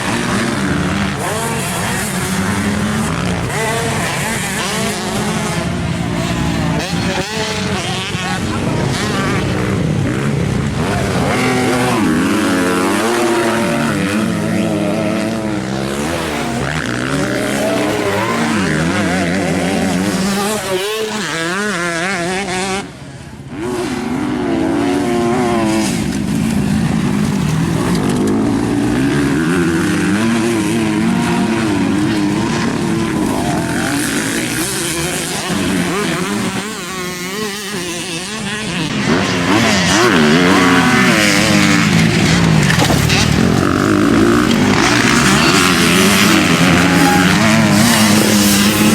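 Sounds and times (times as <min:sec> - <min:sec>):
motocross bike engines revving: 0:00.0 - 0:48.9.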